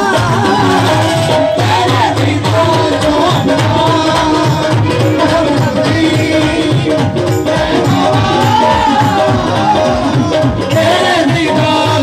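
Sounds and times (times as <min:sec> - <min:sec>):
person singing over pa: 0:00.0 - 0:12.0.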